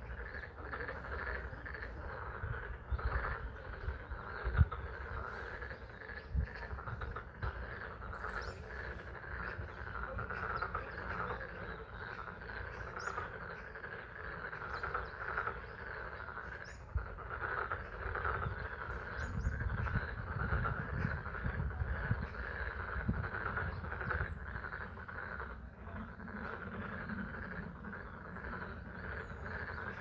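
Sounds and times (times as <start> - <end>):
frogs trilling in chorus: 0.0 - 30.0.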